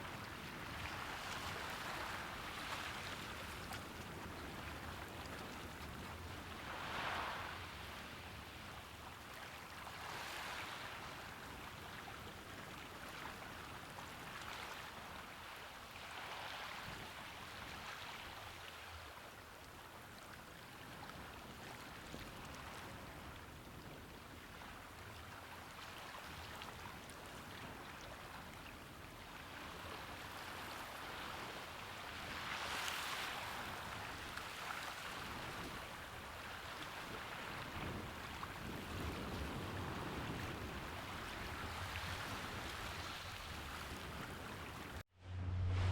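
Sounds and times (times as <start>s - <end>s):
small waves washing onto shore: 0.0s - 45.0s.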